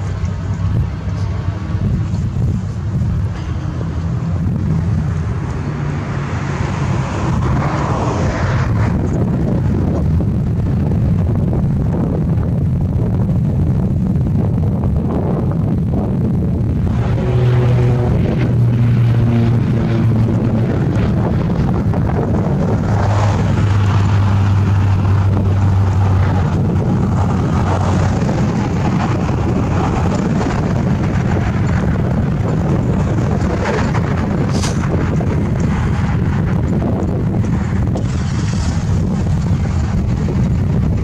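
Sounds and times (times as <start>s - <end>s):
vehicle engine hum: 0.0s - 41.0s
wind buffeting microphone: 0.0s - 41.0s.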